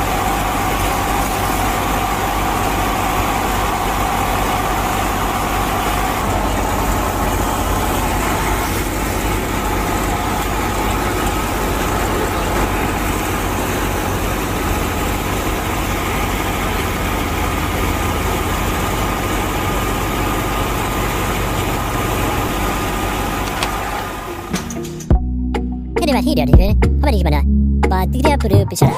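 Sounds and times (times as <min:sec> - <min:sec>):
engine idling: 0:00.0 - 0:25.2.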